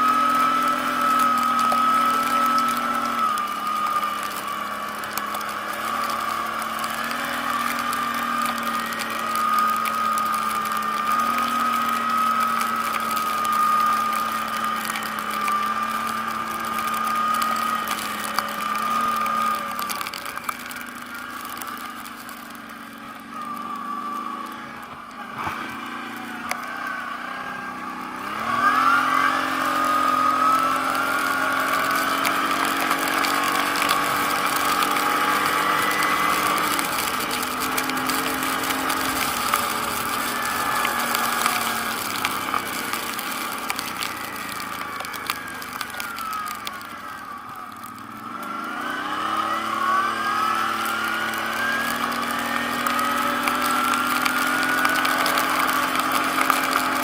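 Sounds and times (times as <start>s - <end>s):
atv engine revving: 0.0s - 57.0s
rising whine: 0.0s - 57.0s.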